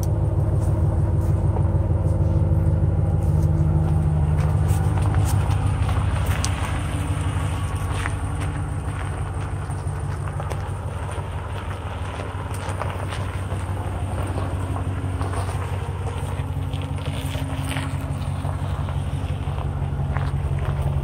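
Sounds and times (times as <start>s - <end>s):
pickup truck engine idling: 0.0s - 21.0s.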